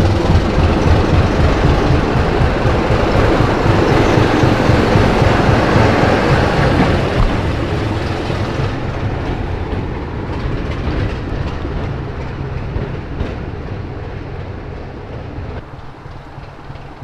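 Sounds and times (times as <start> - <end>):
diesel locomotive engine running: 0.0 - 17.0
wheels clattering on rails: 0.0 - 17.0.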